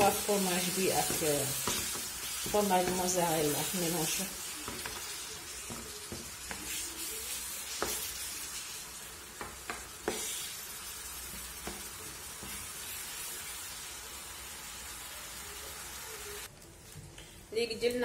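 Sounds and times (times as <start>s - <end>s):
meat and onions sizzling in pan: 0.0s - 16.5s.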